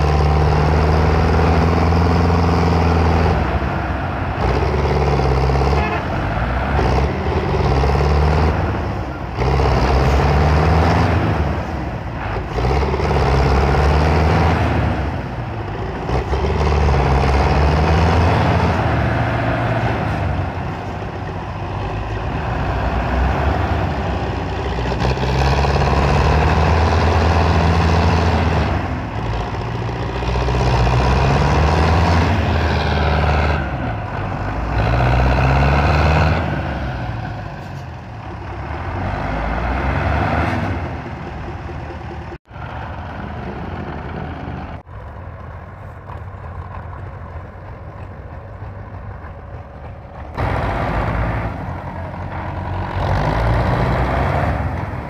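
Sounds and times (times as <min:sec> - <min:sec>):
tractor engine revving under load: 0:00.0 - 0:44.9, 0:45.9 - 0:55.0.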